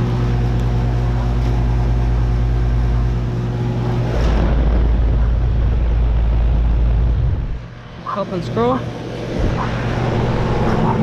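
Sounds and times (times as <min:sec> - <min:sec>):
air conditioner electrical buzz: 0:00.0 - 0:11.0
low rumble: 0:00.0 - 0:11.0.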